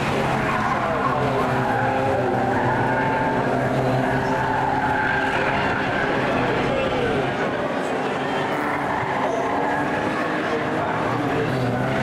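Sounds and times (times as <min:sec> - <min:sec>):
race cars passing at high revs: 0:00.0 - 0:12.0.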